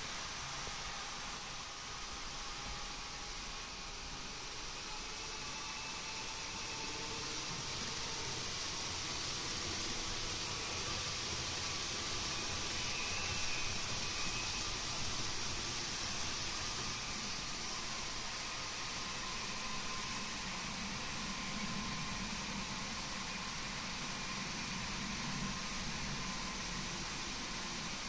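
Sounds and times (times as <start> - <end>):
faint motor whine: 0.0 - 28.0
model train hissing rumble: 0.0 - 28.0.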